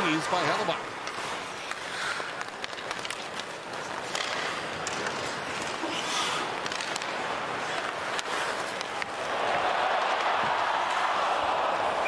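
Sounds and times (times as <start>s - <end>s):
skate blades scraping ice: 0.0s - 12.0s
sticks clicking on puck: 0.4s - 12.0s.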